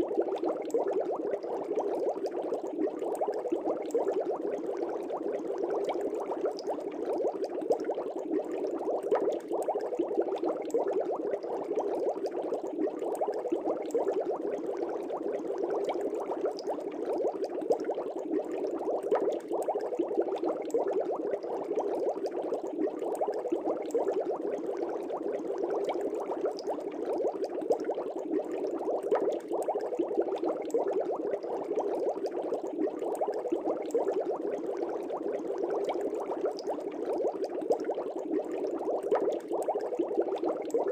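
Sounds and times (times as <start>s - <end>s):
aquarium air bubbling: 0.0s - 40.9s.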